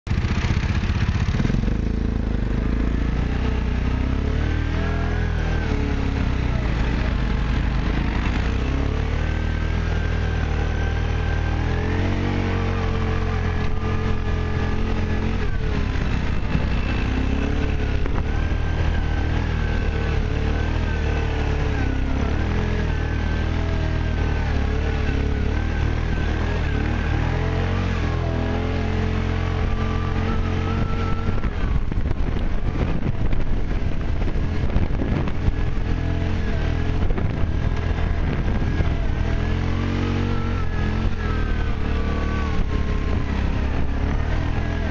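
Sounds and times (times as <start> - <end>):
atv engine revving: 0.1 - 44.9.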